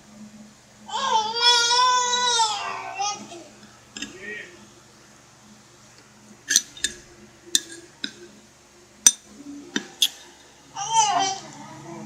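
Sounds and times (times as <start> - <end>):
faint steady low hum: 0.0 - 12.0.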